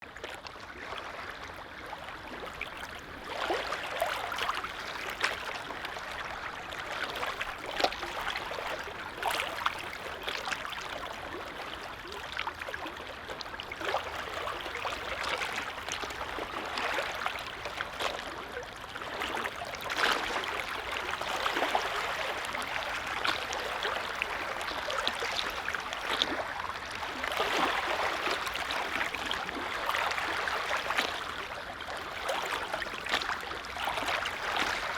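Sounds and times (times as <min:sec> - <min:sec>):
small waves lapping: 0:00.0 - 0:34.9.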